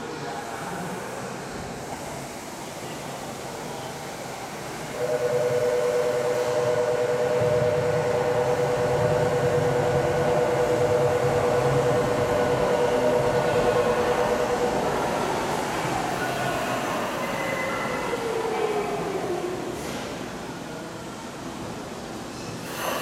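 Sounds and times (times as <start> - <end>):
low hum of stopped train: 0.0 - 23.0.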